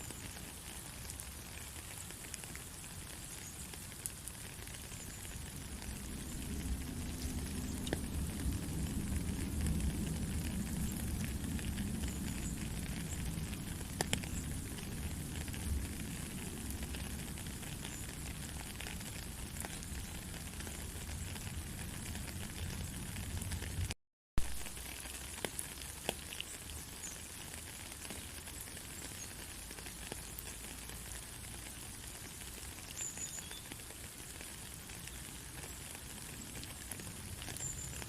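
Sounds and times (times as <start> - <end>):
rain drop clicks: 0.0 - 38.0
steady rain falling: 0.0 - 38.0.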